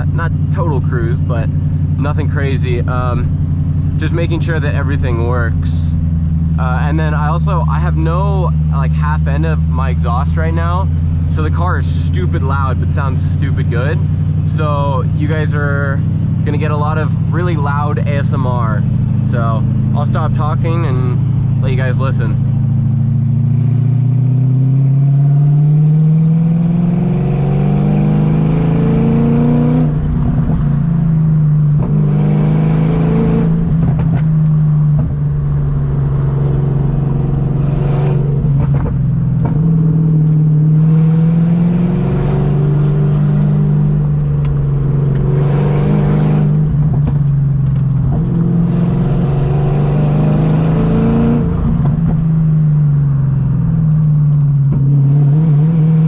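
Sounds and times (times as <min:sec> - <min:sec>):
loud car engine revving: 0:00.0 - 0:56.0.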